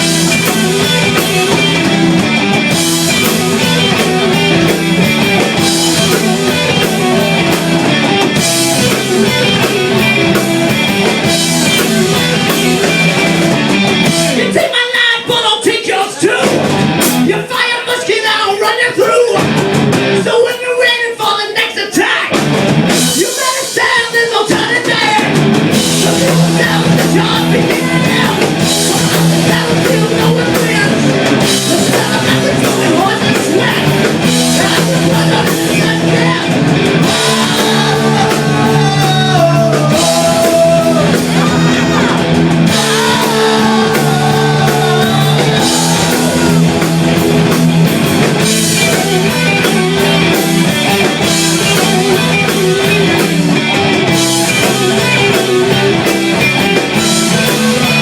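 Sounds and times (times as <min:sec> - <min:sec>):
heavy metal music: 0:00.0 - 0:58.0.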